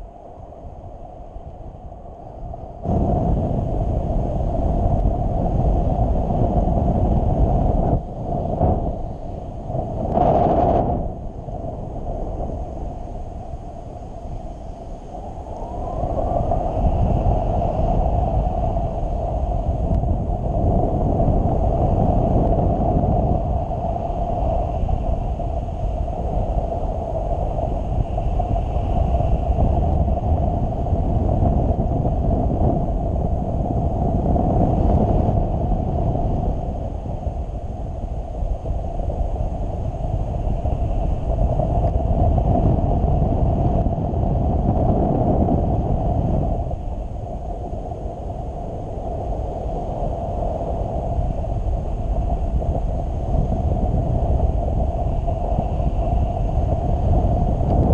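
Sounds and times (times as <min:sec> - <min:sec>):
steady hum: 0:00.0 - 0:57.9
wind buffeting microphone: 0:00.0 - 0:57.9.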